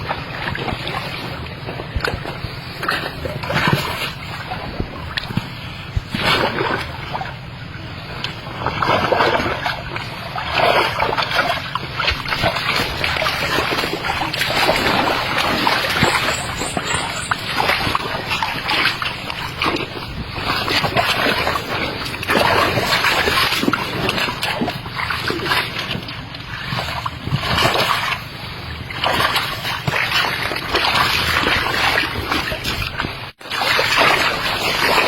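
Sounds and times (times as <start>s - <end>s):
steady low rumble: 0.0s - 35.0s
water splashing and sloshing: 0.0s - 35.0s.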